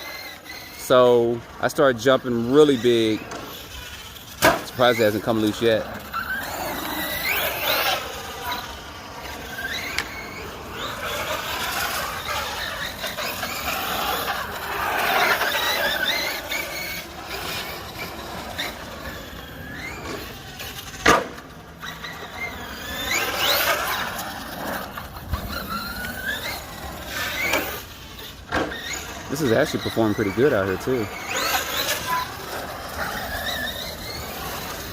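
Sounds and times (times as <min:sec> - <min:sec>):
electric motor whining: 0:00.0 - 0:34.9.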